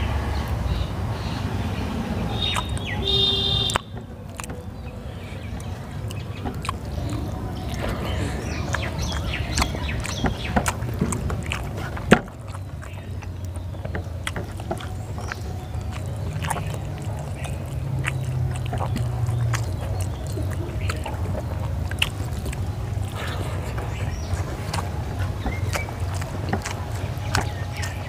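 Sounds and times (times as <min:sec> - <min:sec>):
low hum: 0:00.0 - 0:28.0
steady low rumble: 0:00.0 - 0:28.0.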